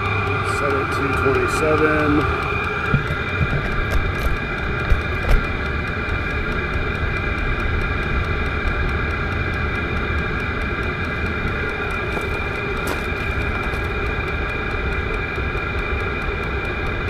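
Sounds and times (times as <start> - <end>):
heater fan whirring: 0.0 - 17.0
faint regular ticking: 0.4 - 17.0.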